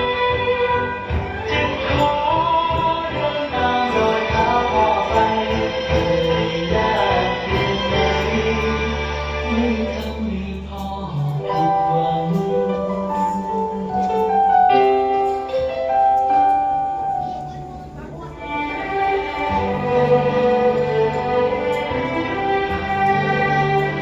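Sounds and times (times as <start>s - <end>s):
song with held notes over bass: 0.0s - 24.0s.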